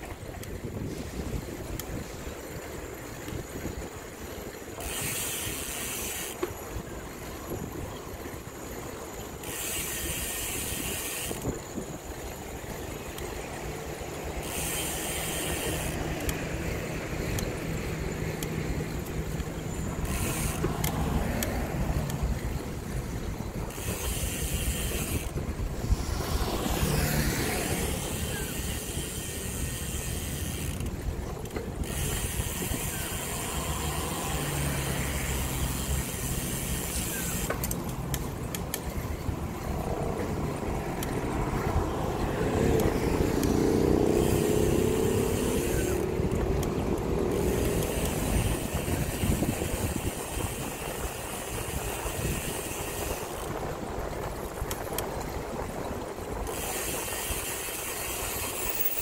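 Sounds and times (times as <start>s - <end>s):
road traffic rumble: 0.0s - 59.0s
wind: 0.0s - 59.0s
cars passing: 8.3s - 59.0s.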